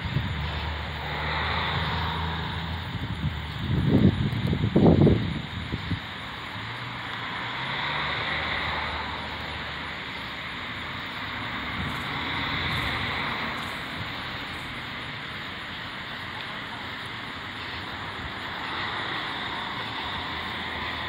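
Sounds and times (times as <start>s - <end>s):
outdoor night hiss: 0.0s - 21.0s.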